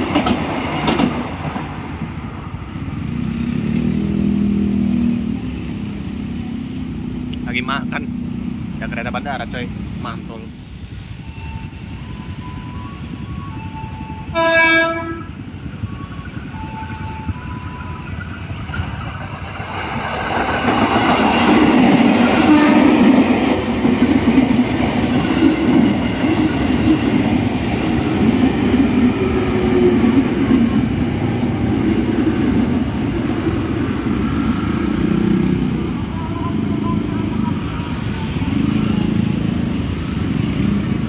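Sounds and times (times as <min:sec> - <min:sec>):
train wheels rumbling and clacking: 0:00.0 - 0:41.0.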